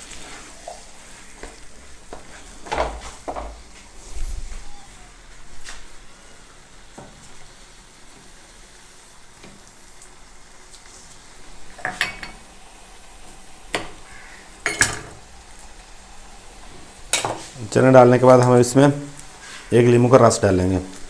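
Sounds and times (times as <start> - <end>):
faint steady sizzle: 0.0 - 21.0.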